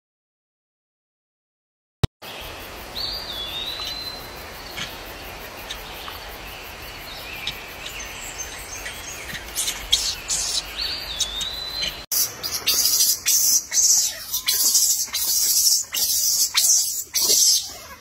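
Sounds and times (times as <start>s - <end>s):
steady forest hiss: 2.2s - 18.0s.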